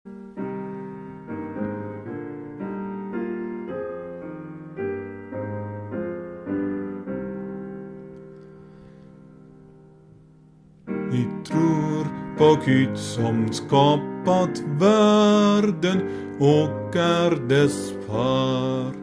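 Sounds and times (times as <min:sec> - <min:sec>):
piano playing slow chords: 0:00.1 - 0:19.0.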